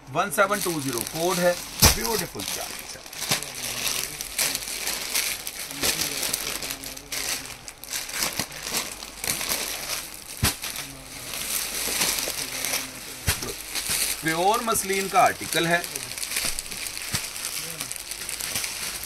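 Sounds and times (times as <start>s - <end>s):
plastic packaging crinkling: 0.3s - 19.0s.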